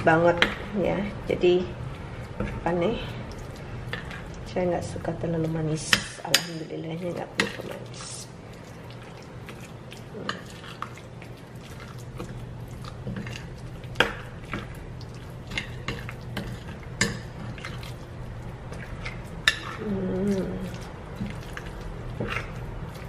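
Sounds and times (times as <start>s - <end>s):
steady low hum: 0.0s - 23.0s
spoon stirring thick batter: 1.3s - 23.0s.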